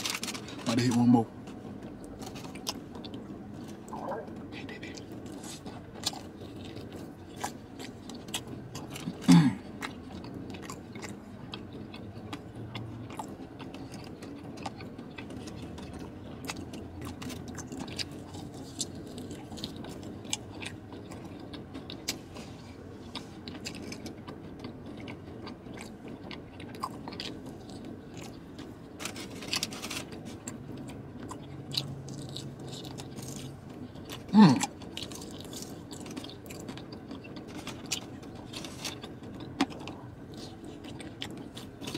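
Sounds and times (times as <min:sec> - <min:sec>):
man chewing wetly: 0:01.6 - 0:41.9.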